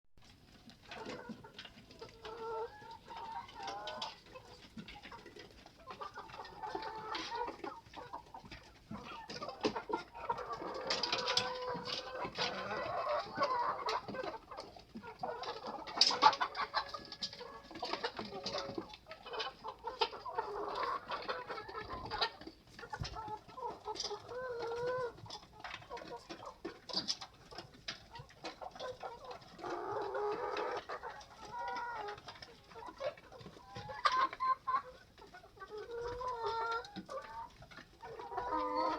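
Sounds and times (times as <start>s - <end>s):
chickens clucking: 0.2s - 38.9s.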